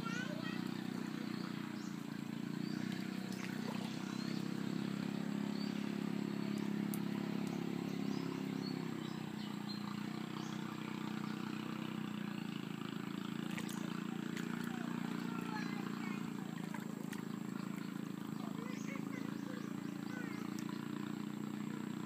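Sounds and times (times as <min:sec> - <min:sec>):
small engine humming: 0:00.0 - 0:22.0.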